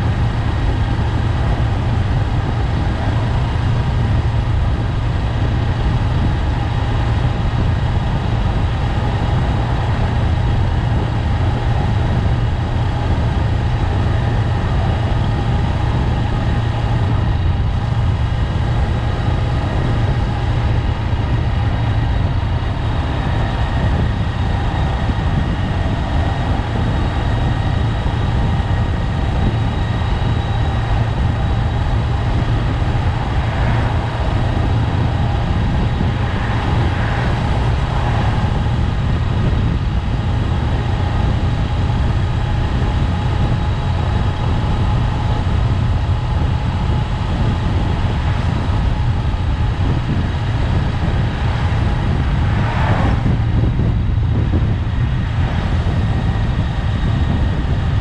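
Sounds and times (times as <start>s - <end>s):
motorcycle engine running: 0.0s - 58.0s
road noise rushing: 0.0s - 58.0s.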